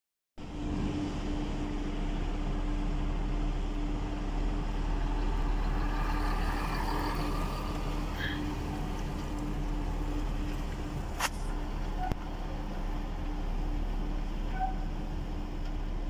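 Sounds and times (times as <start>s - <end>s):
diesel truck engine rumbling: 0.4s - 16.0s.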